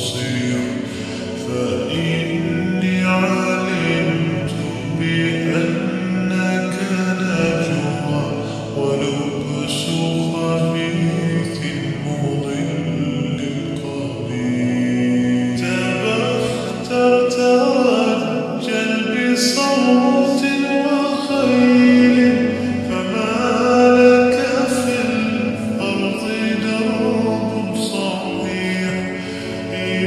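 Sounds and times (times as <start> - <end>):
choir-like vocal backing: 0.0 - 30.0
reverb-drenched sung vocals: 0.0 - 30.0.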